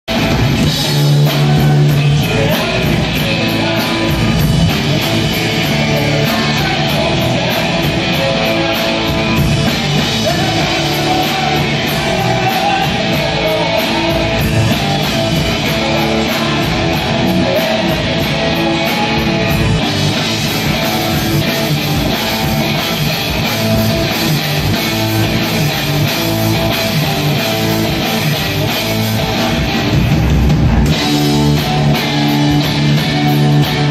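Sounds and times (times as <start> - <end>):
live instrumental rock band: 0.1 - 33.9.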